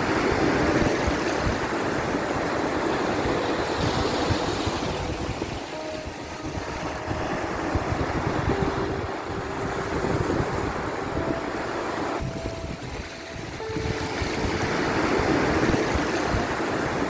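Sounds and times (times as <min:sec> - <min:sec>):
sea waves washing in: 0:00.0 - 0:17.0
faint held tones: 0:00.1 - 0:17.0.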